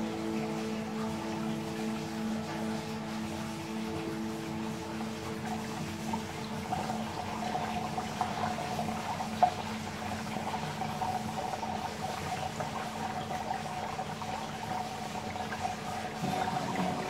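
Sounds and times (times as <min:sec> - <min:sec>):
steady hum: 0:00.0 - 0:17.0
water running and filling: 0:00.0 - 0:17.0.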